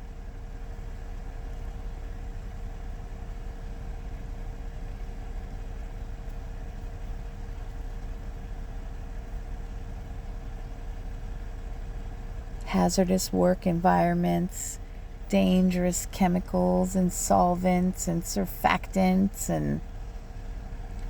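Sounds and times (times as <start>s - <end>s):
car engine idling: 0.0s - 21.0s
constant hum: 0.0s - 21.0s.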